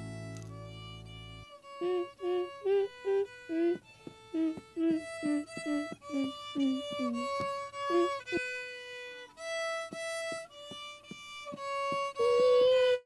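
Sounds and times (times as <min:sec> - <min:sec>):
held high violin note: 0:00.0 - 0:13.0
violin melody of short notes: 0:00.0 - 0:13.0.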